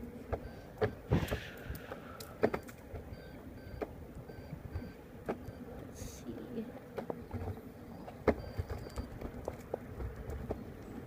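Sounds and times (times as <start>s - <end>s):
faint hub motor whines: 0.0s - 11.0s.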